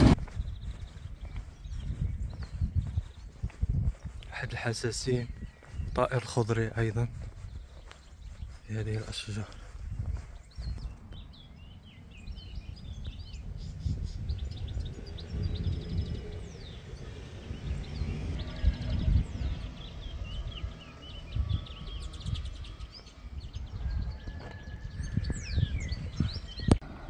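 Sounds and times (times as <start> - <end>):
low rumble on microphone: 0.0 - 27.0
songbirds chirping and trilling: 0.0 - 27.0.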